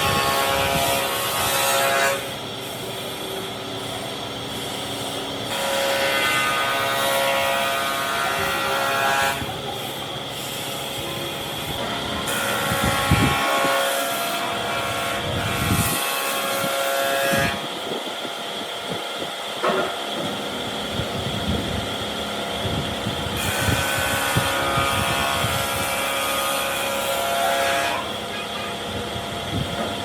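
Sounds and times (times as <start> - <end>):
power tool whining: 0.0 - 30.0.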